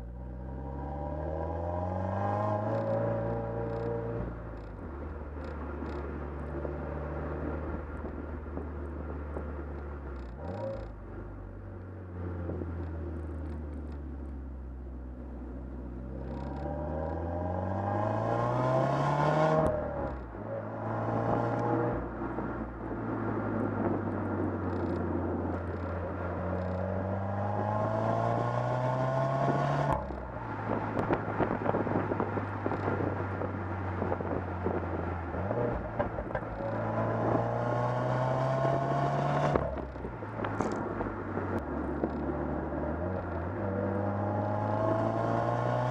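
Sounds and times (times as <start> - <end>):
car engine accelerating through gears: 0.0 - 14.4, 15.9 - 45.9.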